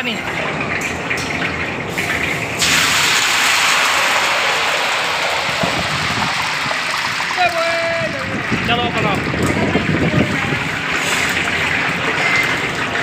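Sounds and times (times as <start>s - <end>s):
hot oil sizzling and bubbling: 0.0s - 13.0s.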